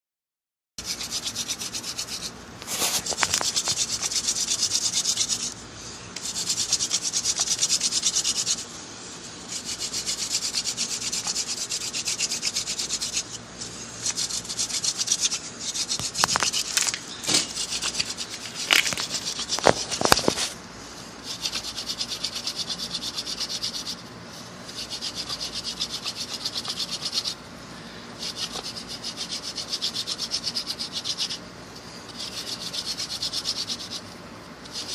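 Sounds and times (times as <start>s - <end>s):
wood spindle rubbing on board: 0.8s - 5.6s, 6.2s - 8.7s, 9.4s - 20.6s, 21.2s - 27.4s, 28.2s - 31.4s, 32.1s - 34.9s.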